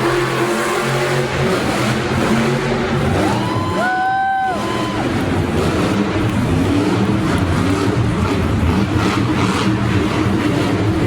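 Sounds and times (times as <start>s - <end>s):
loud truck engine revving: 0.0s - 11.0s.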